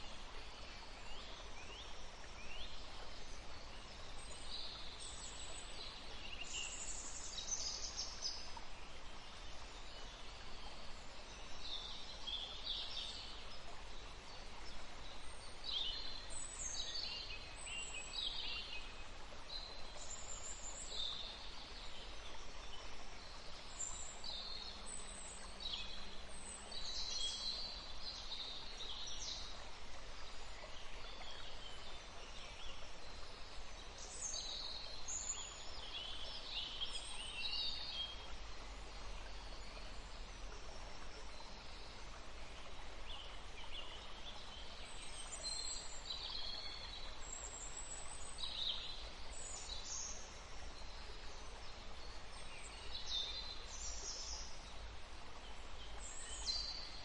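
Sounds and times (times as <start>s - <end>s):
songbirds chirping and trilling: 0.0s - 57.0s
steady background hiss: 0.0s - 57.0s.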